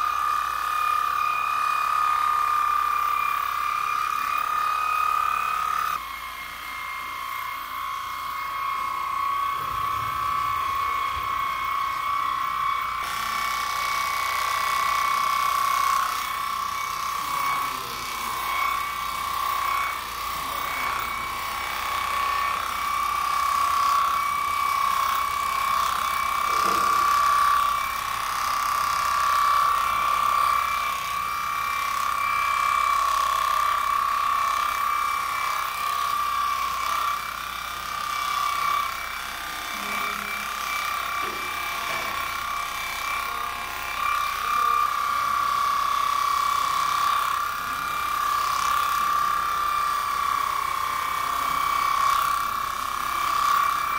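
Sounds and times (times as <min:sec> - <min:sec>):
electric clippers humming: 0:00.0 - 0:53.9.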